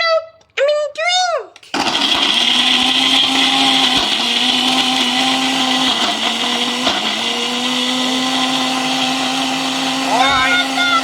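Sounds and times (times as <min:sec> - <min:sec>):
electric blender running: 0:01.6 - 0:11.0.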